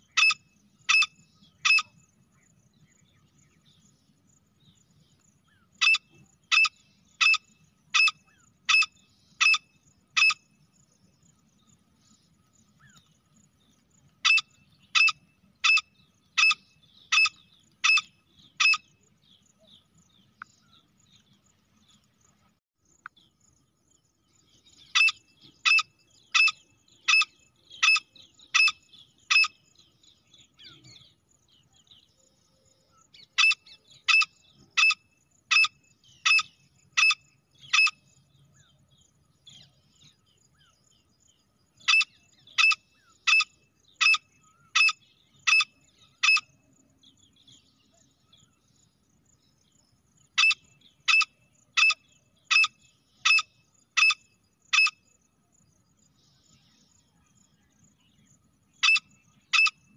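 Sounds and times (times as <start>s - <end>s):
faint bird chirps: 0.0s - 59.9s.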